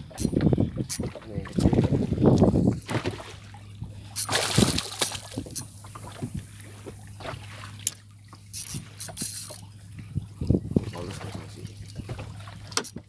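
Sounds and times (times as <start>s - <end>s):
steady low hum: 0.0s - 12.8s
water splashing at boat side: 0.0s - 13.0s.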